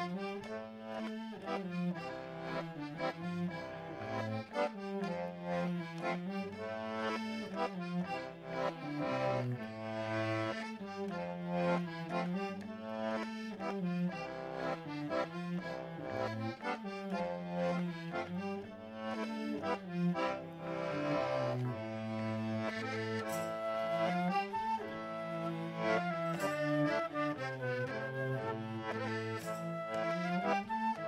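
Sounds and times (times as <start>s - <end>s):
accordion folk dance tune: 0.0s - 31.0s.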